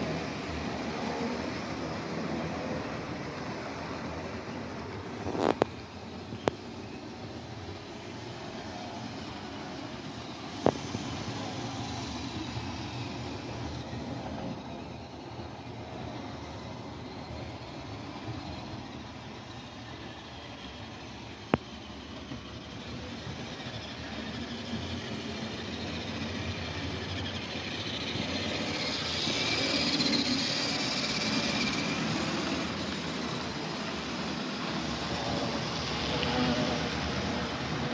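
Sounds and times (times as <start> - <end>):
model trains rolling rattle: 0.0 - 37.9.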